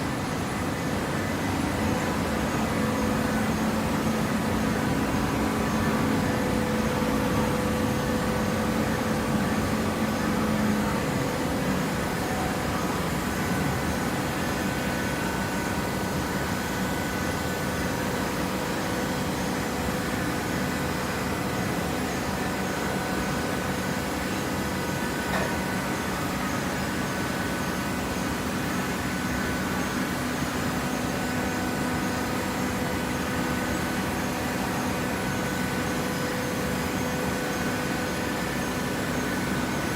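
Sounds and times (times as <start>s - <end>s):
baler machine hum: 0.0s - 39.9s.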